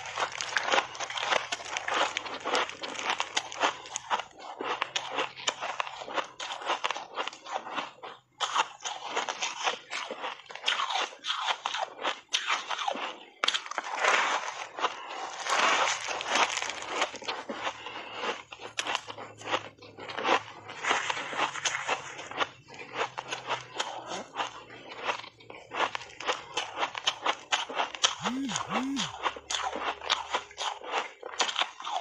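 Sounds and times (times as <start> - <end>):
ice crunching while chewed: 0.0 - 32.0.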